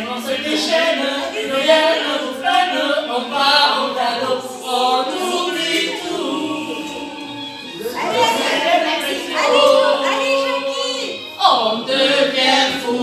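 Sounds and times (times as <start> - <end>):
two voices singing over loudspeaker: 0.0 - 13.0.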